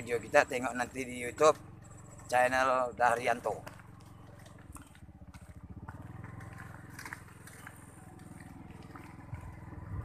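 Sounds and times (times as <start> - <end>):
small motorcycle engine running: 0.0 - 10.0.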